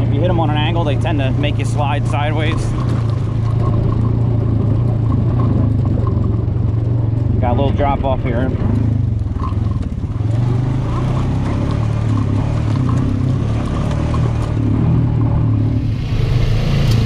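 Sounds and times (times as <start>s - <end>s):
utility vehicle engine droning: 0.0s - 17.0s.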